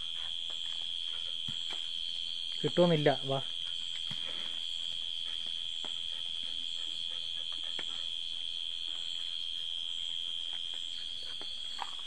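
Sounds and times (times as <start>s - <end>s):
faint ticks and rustles: 0.0s - 12.0s
night insects droning: 0.0s - 12.0s.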